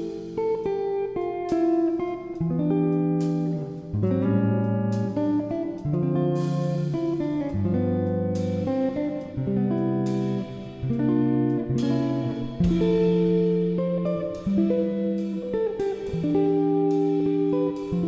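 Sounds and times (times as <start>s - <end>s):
guitar chords strummed: 0.0s - 18.0s.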